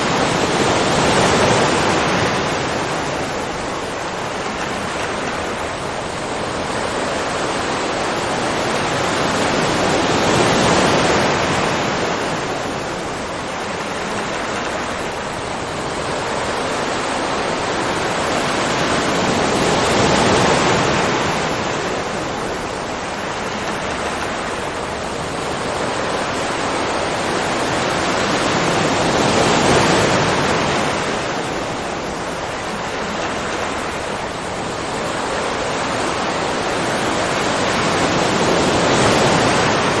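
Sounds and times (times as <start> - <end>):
ocean waves washing in: 0.0 - 40.0.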